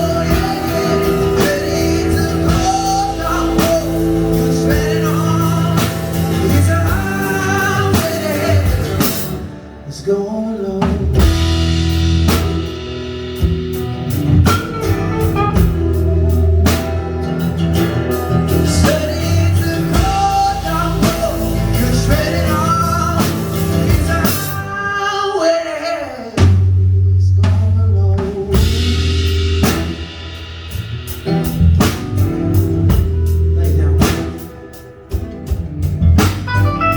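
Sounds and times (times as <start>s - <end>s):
drum kit: 0.0s - 9.7s, 10.7s - 36.9s
electric lead guitar: 0.0s - 26.3s, 28.2s - 36.9s
bass guitar: 0.0s - 36.9s
keyboard: 0.0s - 36.9s
live band playing blues-gospel: 0.0s - 36.9s.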